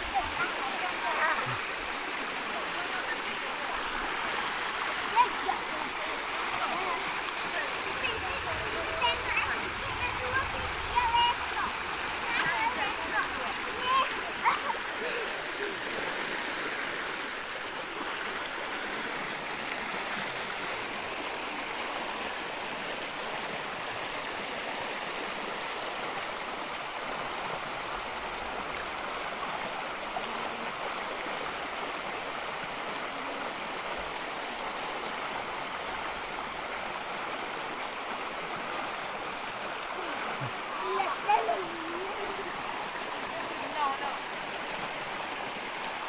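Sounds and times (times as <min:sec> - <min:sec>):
stream cascading over rock: 0:00.0 - 0:46.0.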